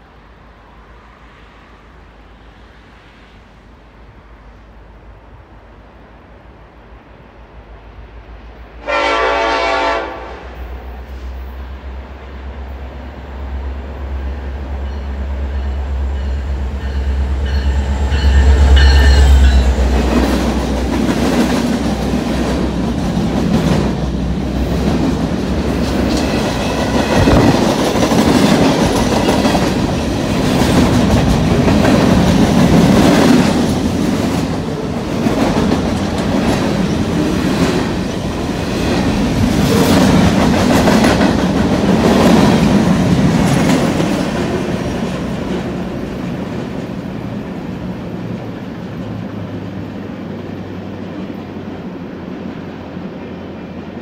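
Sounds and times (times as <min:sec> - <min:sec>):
diesel locomotive rumbling: 0:00.0 - 0:54.0
train cars clattering past: 0:08.4 - 0:54.0.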